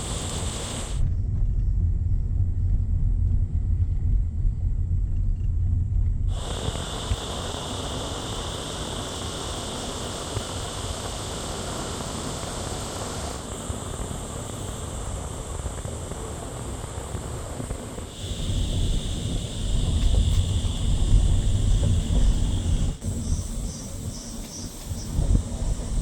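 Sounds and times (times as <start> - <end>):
insects droning: 0.0 - 1.8, 6.3 - 26.0.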